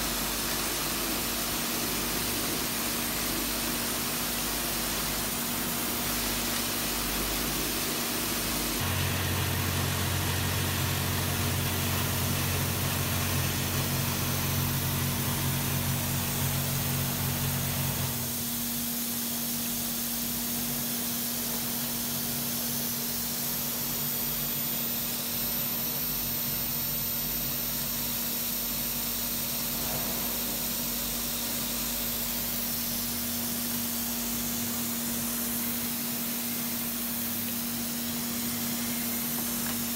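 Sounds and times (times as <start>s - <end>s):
machine hum with hiss: 0.0s - 39.9s.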